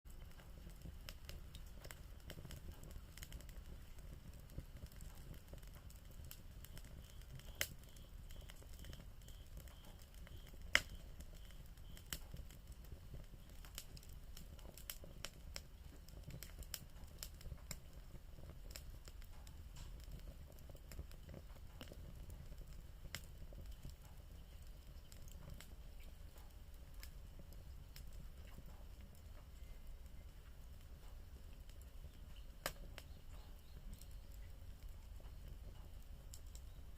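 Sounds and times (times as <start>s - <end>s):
bonfire crackling and popping: 0.1s - 36.9s.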